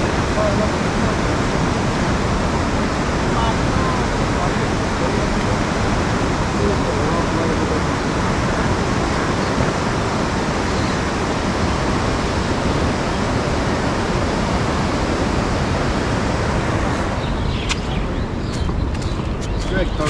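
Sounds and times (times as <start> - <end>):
fast-flowing river rushing: 0.0 - 18.4
wind buffeting microphone: 0.0 - 20.0.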